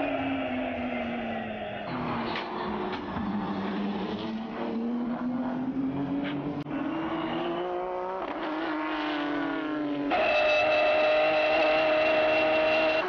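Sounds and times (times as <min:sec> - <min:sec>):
race car engine under load: 0:00.0 - 0:13.0.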